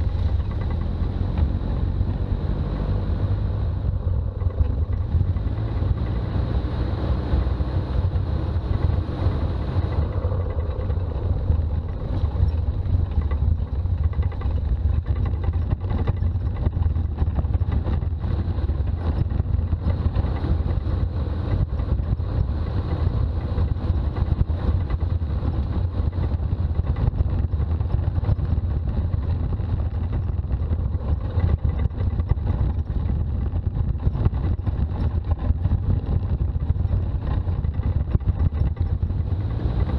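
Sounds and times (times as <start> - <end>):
small knocks and rattles: 0.0 - 3.3, 3.9 - 6.6, 7.4 - 39.9
diesel engine and road rumble: 0.0 - 39.9.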